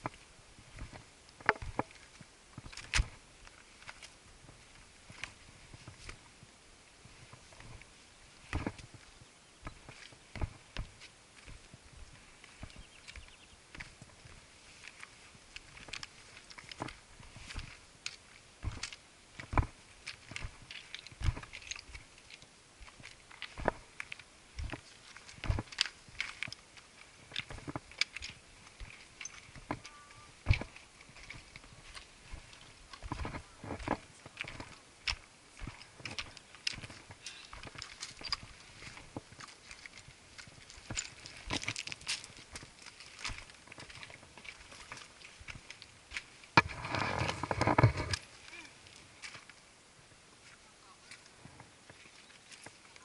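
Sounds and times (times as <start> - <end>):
heavy steps onto rock: 0.0 - 3.2, 7.2 - 49.5
footsteps on loose stones: 0.0 - 53.0
boots crunching on gravel: 7.1 - 49.6.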